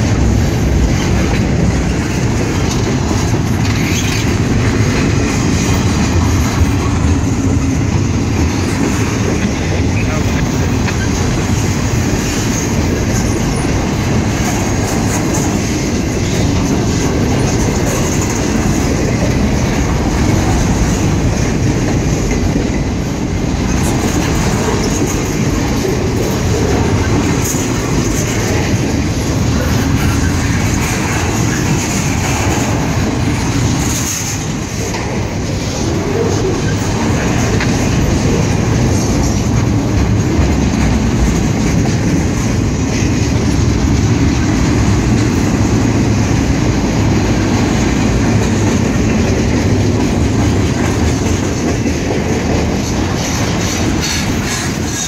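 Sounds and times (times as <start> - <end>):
clatter over rail joints: 0.0 - 55.0
train wheels rumbling on rail: 0.0 - 55.0.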